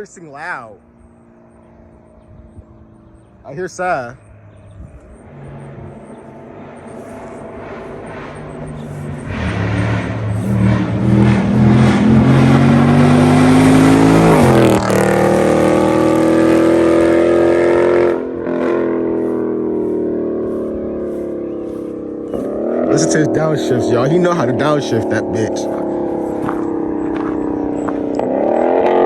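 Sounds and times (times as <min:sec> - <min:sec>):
car engine accelerating hard: 0:01.0 - 0:29.0.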